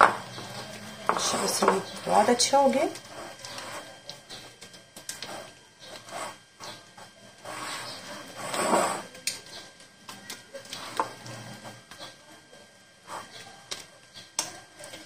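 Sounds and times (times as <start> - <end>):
spatula stirring thick filling: 0.1 - 12.2.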